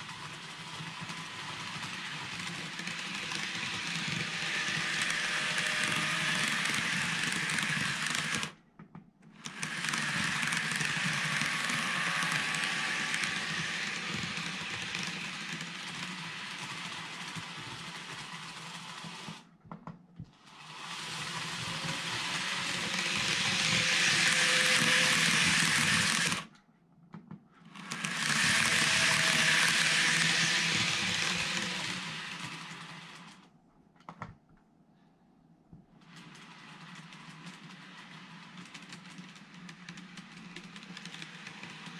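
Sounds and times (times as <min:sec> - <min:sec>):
model train motor whirring: 0:00.0 - 0:08.6, 0:09.4 - 0:19.5, 0:20.4 - 0:26.5, 0:27.7 - 0:33.5, 0:36.0 - 0:41.9.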